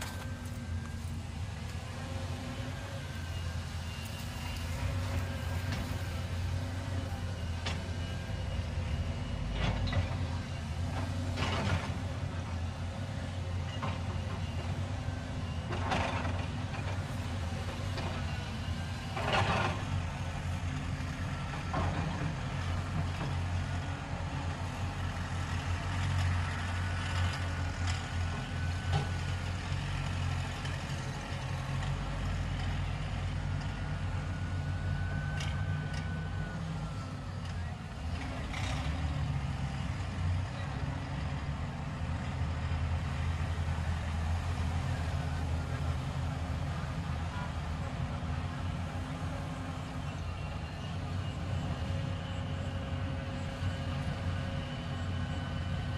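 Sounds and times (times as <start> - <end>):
excavator arm and bucket noise: 0.0 - 55.9
excavator diesel engine humming: 0.0 - 55.9.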